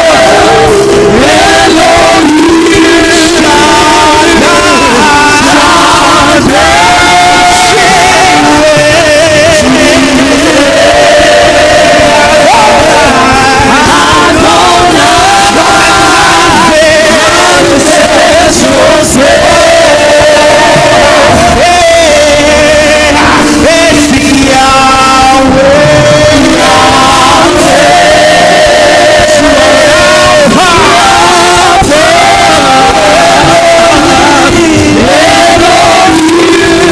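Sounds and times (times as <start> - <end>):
choir and congregation singing: 0.0 - 36.9
worship band playing: 0.0 - 36.9.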